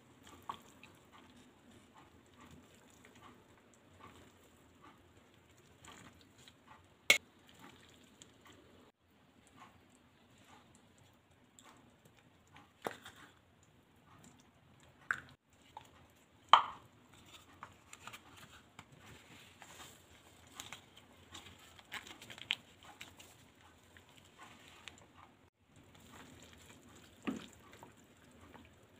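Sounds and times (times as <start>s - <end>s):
broth bubbling in a pan: 0.0s - 17.4s, 19.1s - 28.9s.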